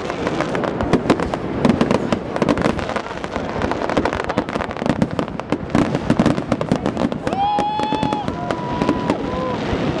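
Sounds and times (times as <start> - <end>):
fireworks cracks and bangs: 0.0 - 10.0.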